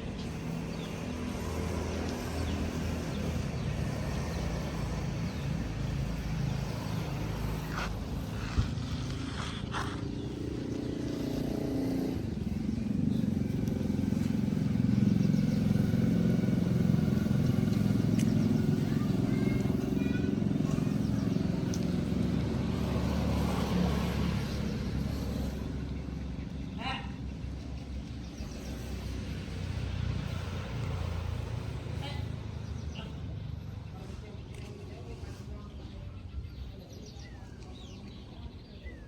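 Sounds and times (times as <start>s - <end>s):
engine running: 0.0s - 36.1s.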